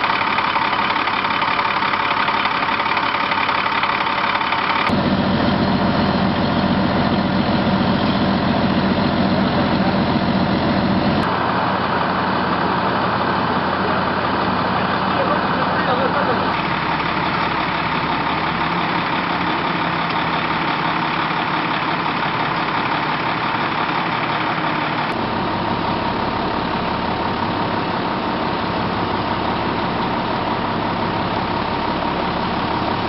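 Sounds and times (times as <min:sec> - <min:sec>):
fire truck engine running: 0:00.0 - 0:33.0.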